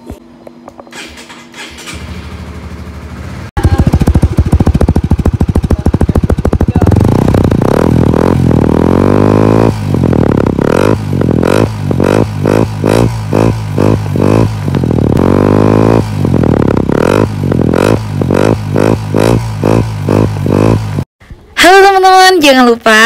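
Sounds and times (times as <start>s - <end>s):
motorcycle engine running: 0.0s - 21.1s.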